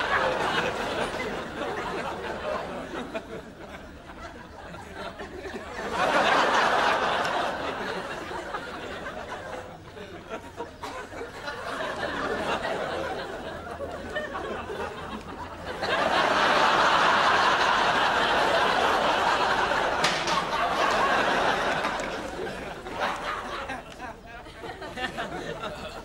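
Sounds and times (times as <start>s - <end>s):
studio audience laughter: 0.0s - 26.0s.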